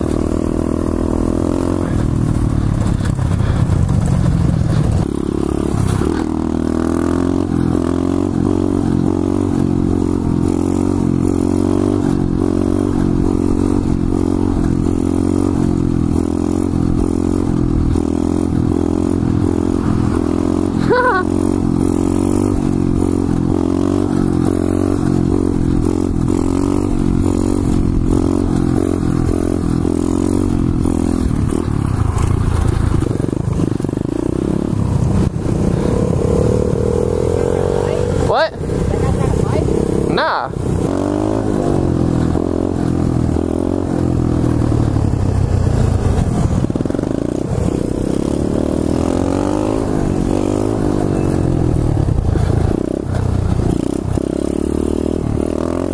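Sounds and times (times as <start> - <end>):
pit bike engine running: 0.0 - 55.9.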